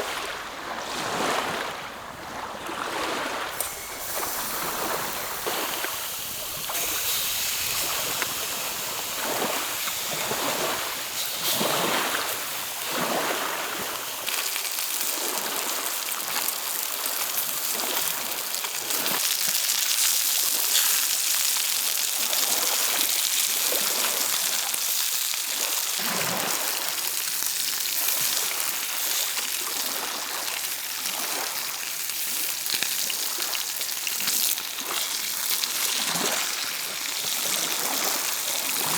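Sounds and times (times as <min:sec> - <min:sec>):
waves lapping against shore: 0:00.0 - 0:38.9.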